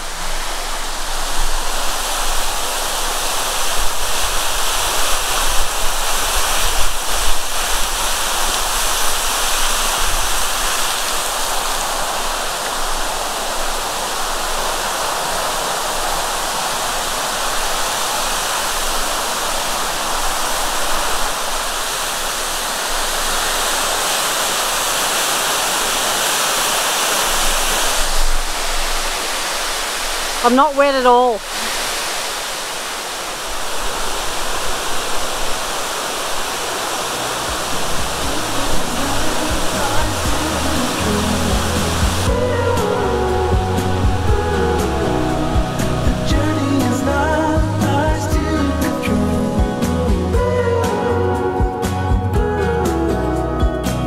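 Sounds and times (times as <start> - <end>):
waterfall rushing onto rocks: 0.0 - 51.9.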